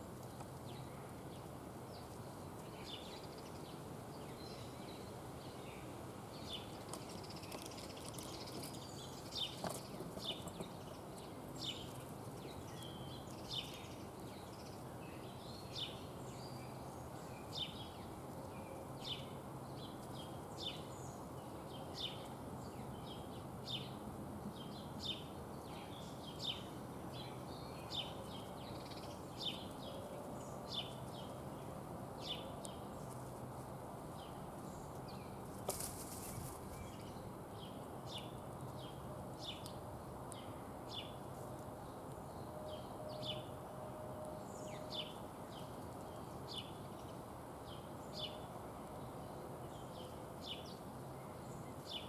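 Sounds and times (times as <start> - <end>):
songbird chirping: 0.2 - 52.0.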